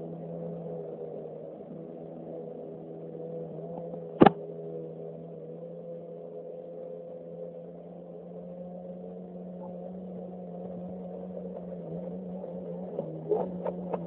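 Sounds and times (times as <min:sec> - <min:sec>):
jet ski engine droning: 0:00.0 - 0:14.0.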